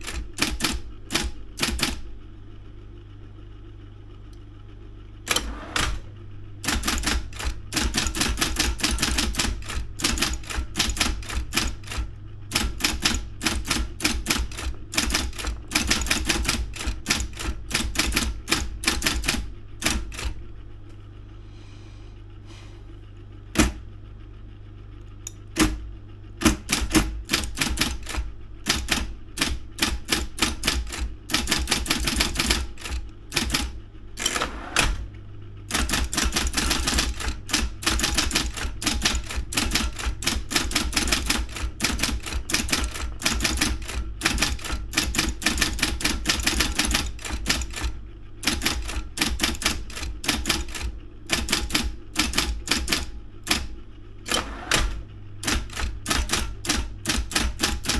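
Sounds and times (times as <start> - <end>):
typewriter key strikes: 0.0 - 2.0, 6.6 - 20.4, 23.5 - 23.8, 25.3 - 35.0, 35.7 - 53.7, 54.3 - 57.9
typewriter motor humming: 0.0 - 2.2, 5.2 - 20.6, 23.5 - 24.0, 25.2 - 57.9.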